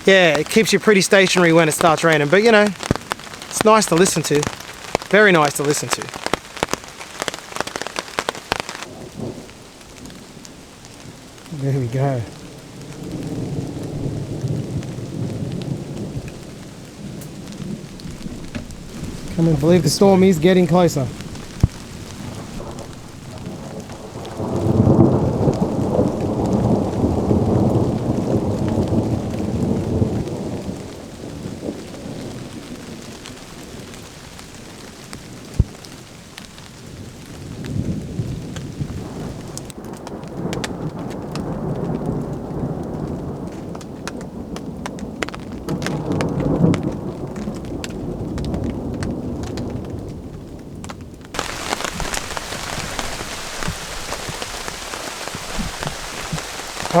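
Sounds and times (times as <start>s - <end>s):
raindrop ticks: 0.0s - 57.0s
steady rain: 0.0s - 57.0s
thunder rumbling: 0.0s - 57.0s.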